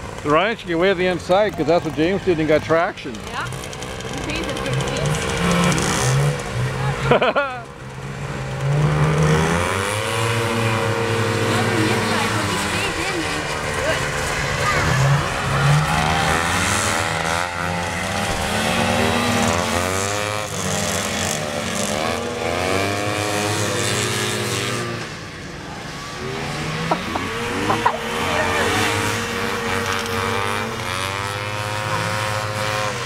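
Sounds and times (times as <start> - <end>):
snowmobile engines racing: 0.0 - 33.0.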